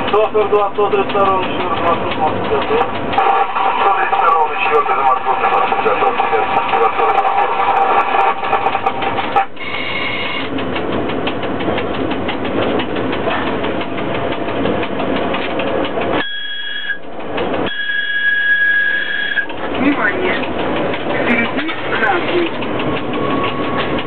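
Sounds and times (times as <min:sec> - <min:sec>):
rapid clicks: 0:00.0 - 0:09.5, 0:10.4 - 0:16.2, 0:17.0 - 0:17.7, 0:19.2 - 0:24.0
locomotive cab noise: 0:00.0 - 0:24.0.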